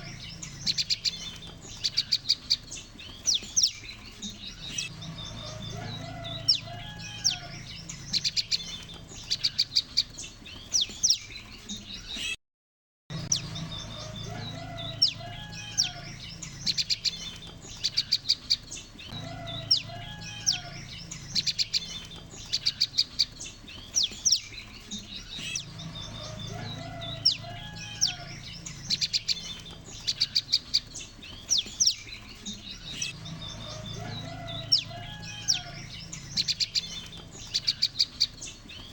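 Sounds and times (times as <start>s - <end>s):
birds chirping and trilling: 0.0s - 12.4s, 13.1s - 38.9s.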